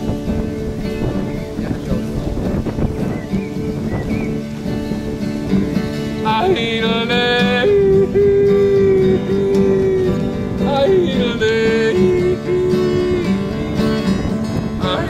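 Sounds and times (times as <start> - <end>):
strummed acoustic guitar: 0.0 - 15.0
fiddle playing long notes: 1.6 - 15.0.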